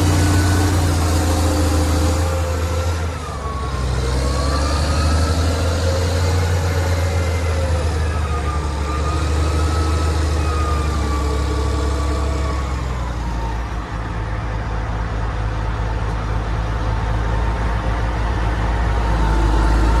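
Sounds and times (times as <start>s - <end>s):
excavator diesel engine: 0.0s - 20.0s
hydraulic whine: 0.0s - 20.0s.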